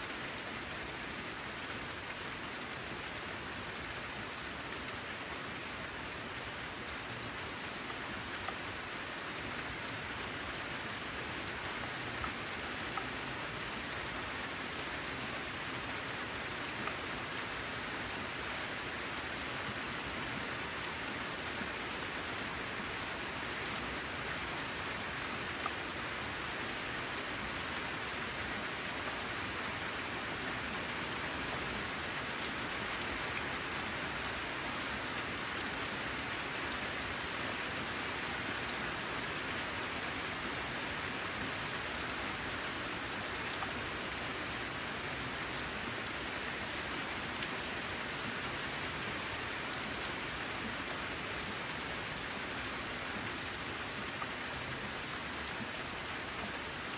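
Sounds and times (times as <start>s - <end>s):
rain on a metal roof: 0.0s - 56.9s.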